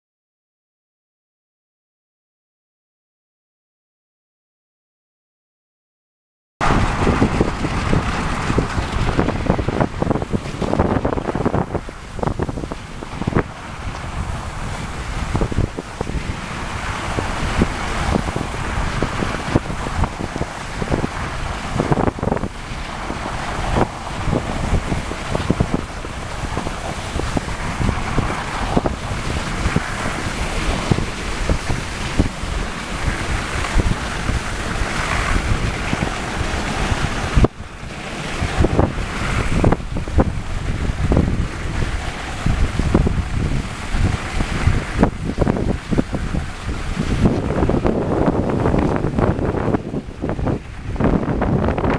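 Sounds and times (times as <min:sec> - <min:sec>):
sled knocks and rattles: 0:06.6 - 0:51.9
sled runners scraping snow: 0:06.6 - 0:51.9
wind buffeting microphone: 0:06.6 - 0:51.9.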